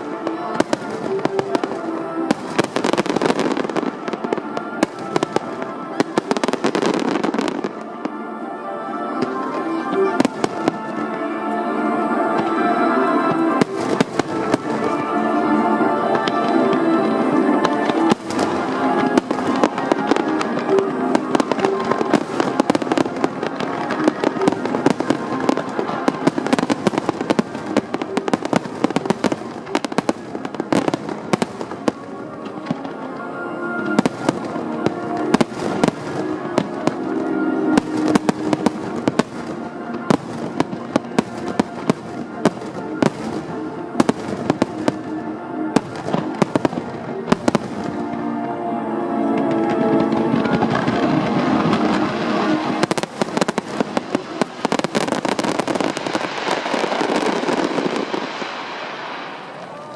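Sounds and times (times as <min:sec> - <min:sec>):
fireworks bangs and crackling: 0:00.0 - 0:08.2, 0:09.2 - 0:11.5, 0:12.3 - 0:48.5, 0:49.4 - 0:59.9
music playing: 0:00.0 - 0:59.9.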